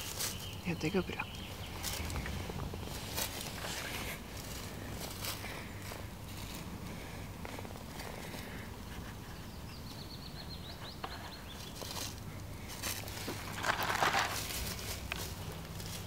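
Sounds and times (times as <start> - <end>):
animal rustling through dry leaves: 0.0 - 9.2, 11.2 - 16.0.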